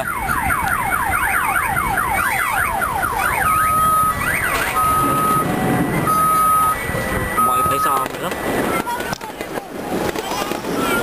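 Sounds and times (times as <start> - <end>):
car alarm warbling: 0.0 - 9.2.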